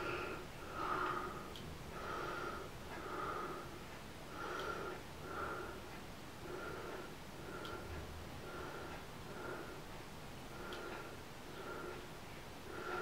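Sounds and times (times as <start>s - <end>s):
person breathing heavily through nose: 0.0s - 9.9s, 10.5s - 13.0s.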